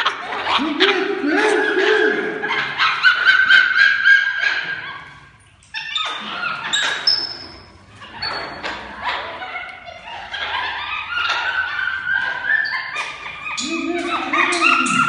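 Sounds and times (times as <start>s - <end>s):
monkeys squealing and chirping: 0.0s - 15.0s.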